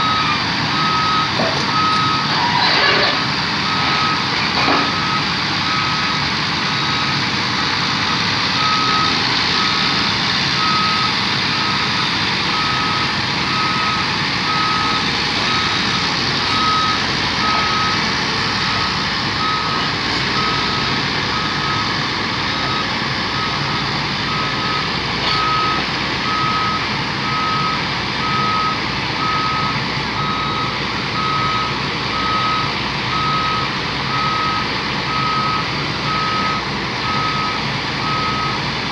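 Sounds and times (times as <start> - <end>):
alarm beeping: 0.0 - 6.2, 6.8 - 38.6
heavy engine running: 0.0 - 38.9.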